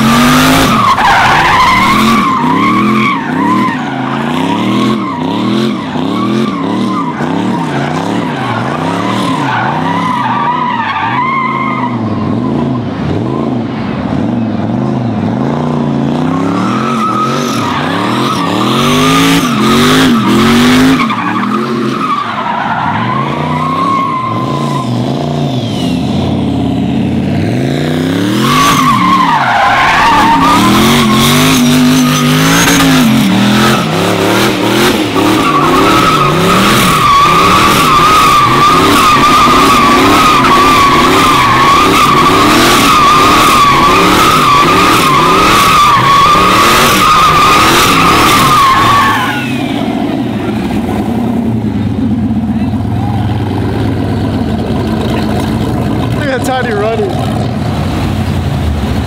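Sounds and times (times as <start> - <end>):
tires squealing: 0.0 - 26.7, 27.4 - 59.0
truck engine revving: 0.0 - 59.0.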